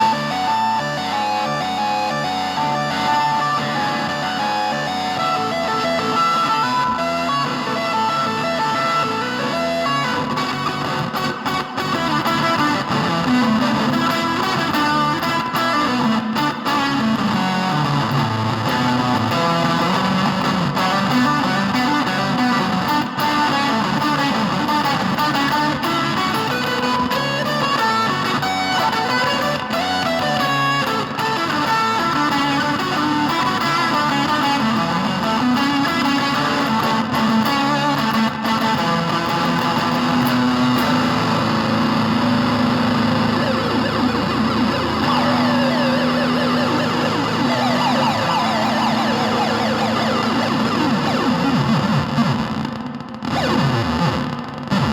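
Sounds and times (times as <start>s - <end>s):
fuzzy processed electric guitar: 0.0s - 54.9s.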